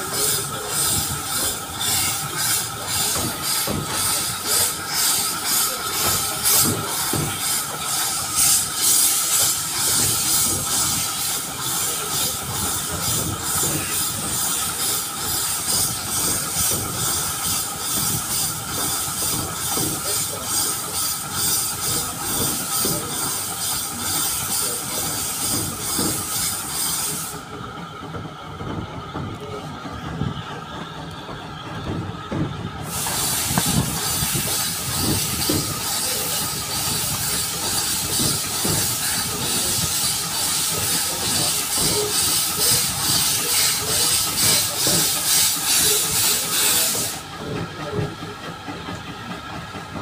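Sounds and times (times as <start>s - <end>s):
coaches rumbling on track: 0.0s - 50.0s
steam locomotive chuffing: 0.0s - 50.0s.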